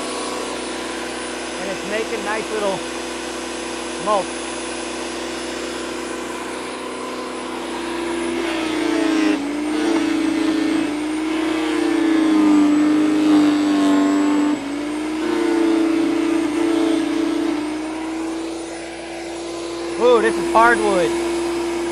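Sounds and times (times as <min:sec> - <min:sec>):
electric chipper shredder running: 0:00.0 - 0:21.9.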